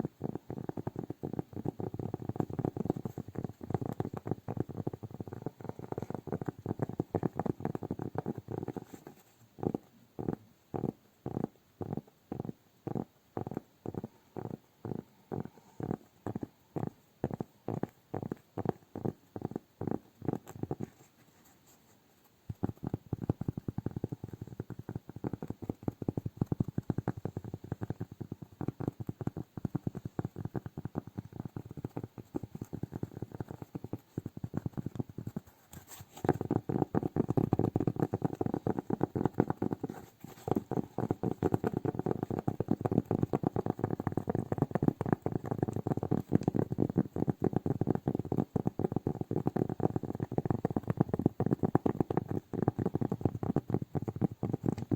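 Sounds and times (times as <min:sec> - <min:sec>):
fingers tapping and rubbing: 0:00.0 - 0:54.9.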